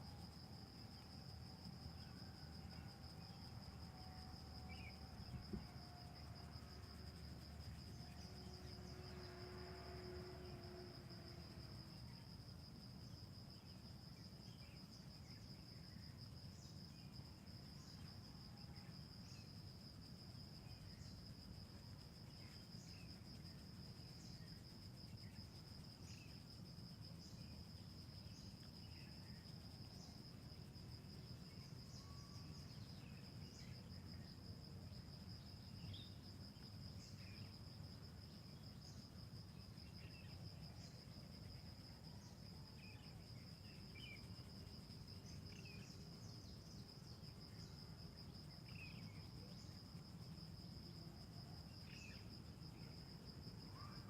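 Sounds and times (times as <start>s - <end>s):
cricket trilling: 0.0s - 54.0s
low background hiss: 0.0s - 54.0s.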